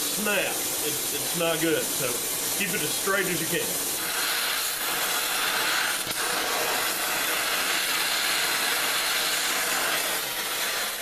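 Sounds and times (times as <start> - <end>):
welding torch hissing: 0.0 - 11.0.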